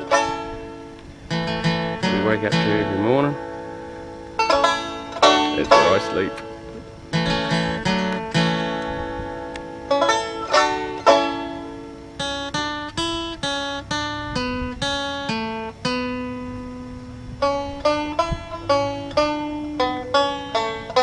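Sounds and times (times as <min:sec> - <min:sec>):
plucked acoustic string melody: 0:00.0 - 0:21.0.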